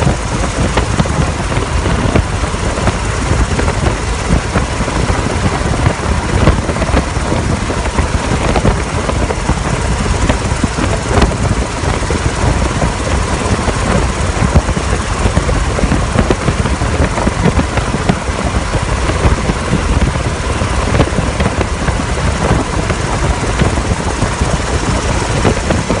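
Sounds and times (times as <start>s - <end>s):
helicopter rotor and turbine drone: 0.0s - 26.0s.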